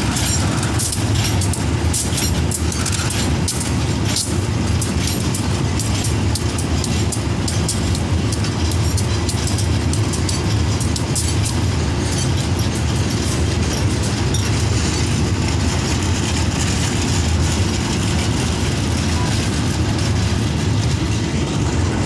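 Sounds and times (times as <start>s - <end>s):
rattling clicks: 0.0s - 21.7s
train wagons rumbling on track: 0.0s - 22.0s.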